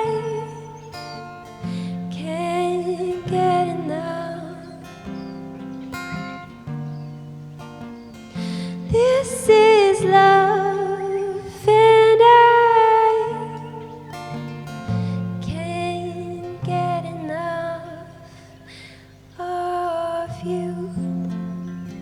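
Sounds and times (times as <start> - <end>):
person singing softly: 0.0 - 5.8, 8.3 - 21.7
acoustic guitar chords: 0.0 - 22.0.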